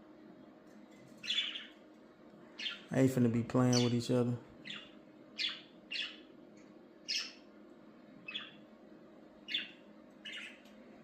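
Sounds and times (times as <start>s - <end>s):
small birds chirping: 1.1s - 11.0s.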